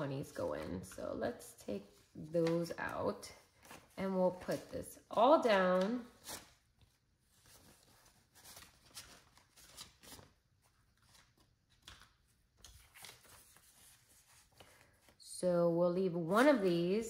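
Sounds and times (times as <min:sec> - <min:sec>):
banknotes rustling: 0:00.0 - 0:15.2.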